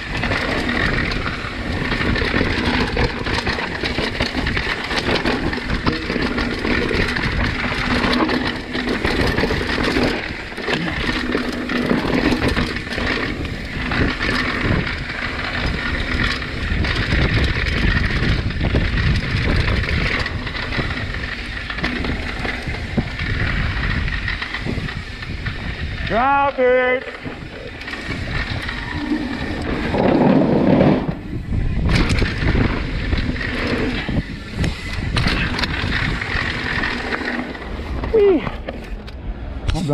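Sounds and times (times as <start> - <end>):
bike clattering over rocks: 0.0 - 39.1
bike tyre and ride noise: 0.0 - 39.9.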